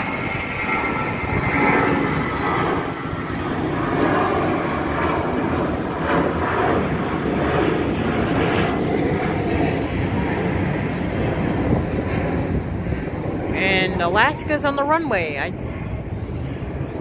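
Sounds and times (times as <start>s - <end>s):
jet engines climbing: 0.0s - 17.0s.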